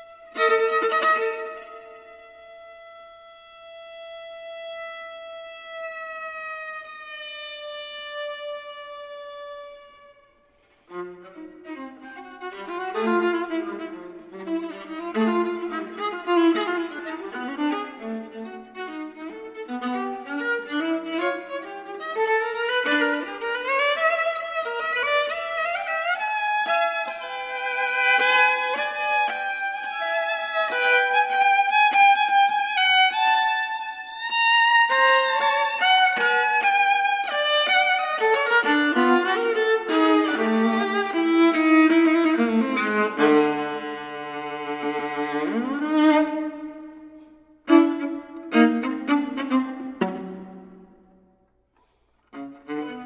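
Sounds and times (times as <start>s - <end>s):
solo bowed viola: 0.0s - 53.0s.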